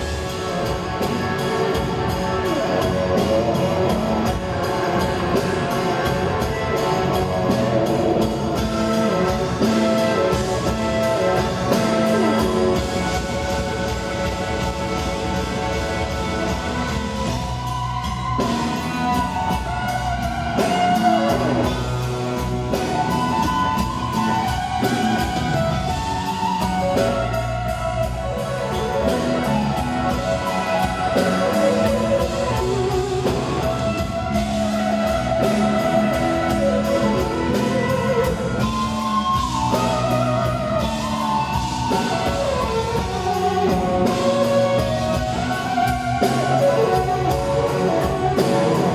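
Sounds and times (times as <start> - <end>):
blues rock band playing: 0.0 - 48.9
drum kit: 0.0 - 48.9
electric guitar solo: 0.0 - 48.9.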